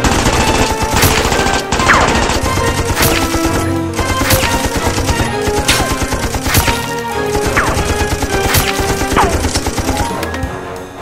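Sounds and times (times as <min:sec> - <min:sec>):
action music with driving beat: 0:00.0 - 0:11.0.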